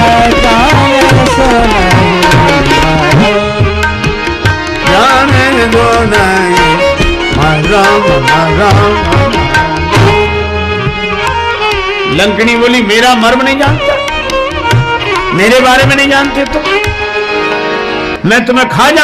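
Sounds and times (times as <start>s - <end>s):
tabla drums: 0.0s - 19.0s.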